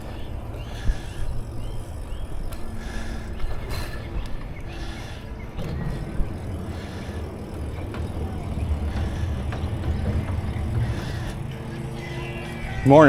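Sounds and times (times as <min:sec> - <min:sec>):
bicycle tyre noise: 0:00.0 - 0:13.0.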